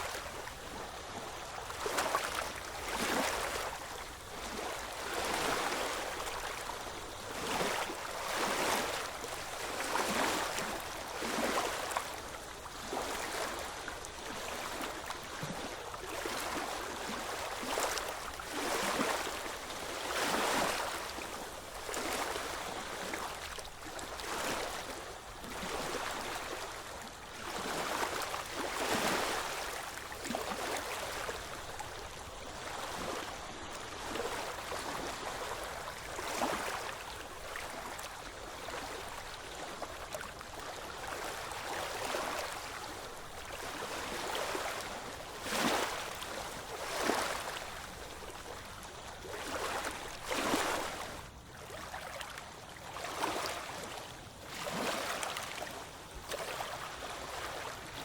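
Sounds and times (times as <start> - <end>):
small waves washing on shore: 0.0 - 58.0.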